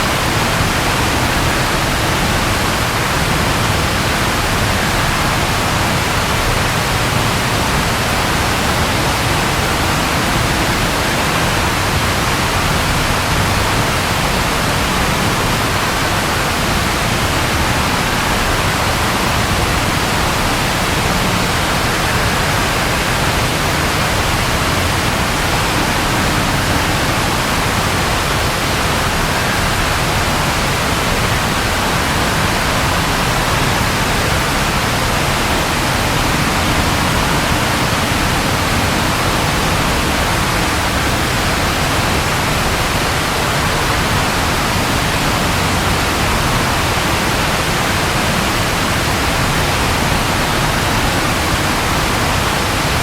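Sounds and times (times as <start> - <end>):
heavy rainfall: 0.0 - 53.0.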